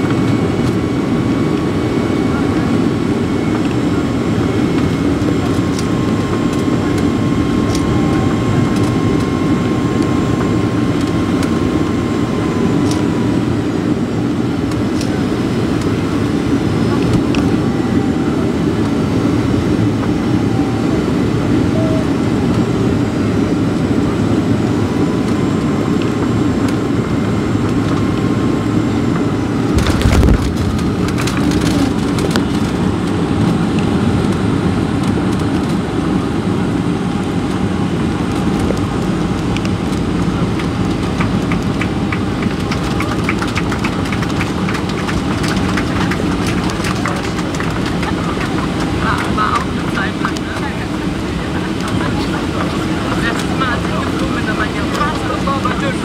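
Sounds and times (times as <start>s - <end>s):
jet engine cabin noise: 0.0s - 56.0s.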